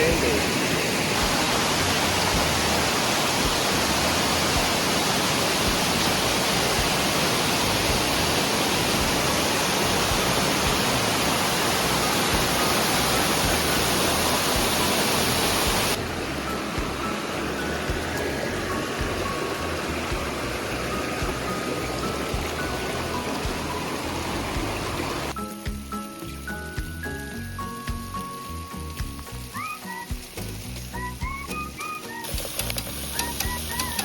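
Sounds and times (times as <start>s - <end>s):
creek water flowing: 0.0s - 34.0s.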